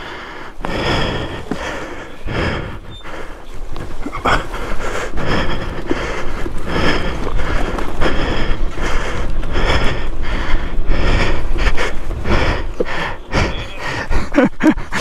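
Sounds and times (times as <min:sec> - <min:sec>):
person panting heavily: 0:00.0 - 0:15.0.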